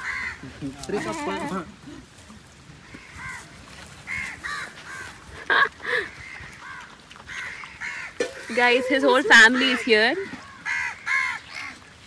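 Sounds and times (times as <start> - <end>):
crows cawing: 0.0 - 1.4, 2.8 - 5.2, 5.8 - 11.9.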